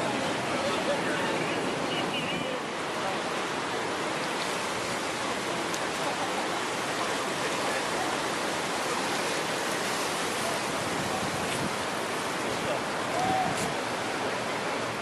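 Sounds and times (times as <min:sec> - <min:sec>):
hiss of water at beach: 0:00.0 - 0:15.0.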